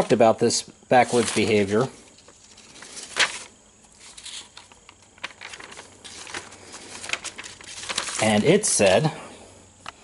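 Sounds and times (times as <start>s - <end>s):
paper rustling and crinkling: 0.9s - 9.1s.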